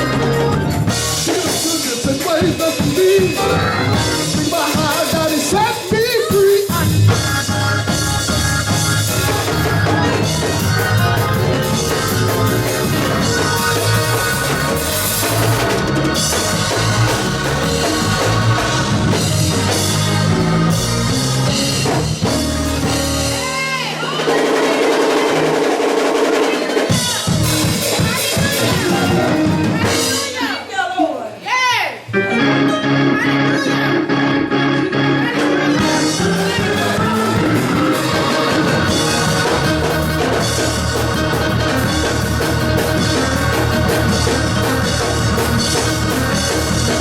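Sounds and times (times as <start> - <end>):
live band music: 0.0 - 47.0
drum hits: 0.6 - 30.6, 35.8 - 47.0.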